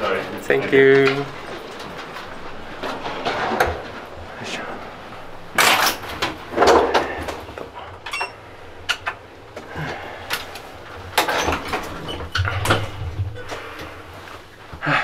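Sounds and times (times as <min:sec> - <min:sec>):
elevator hum: 0:00.0 - 0:15.0.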